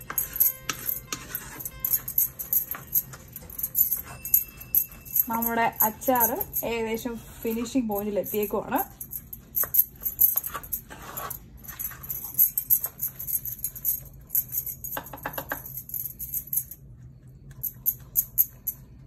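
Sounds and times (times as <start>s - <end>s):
light metallic jingle: 0.0s - 16.8s.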